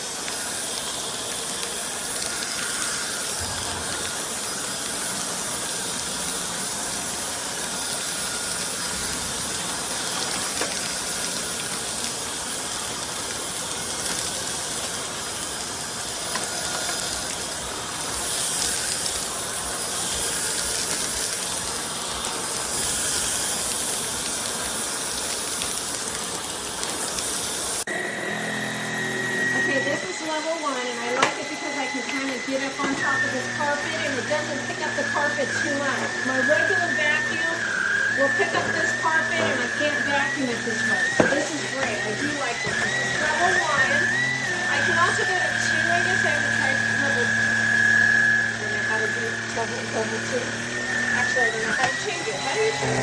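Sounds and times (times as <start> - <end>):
stick vacuum running: 0.0 - 53.0.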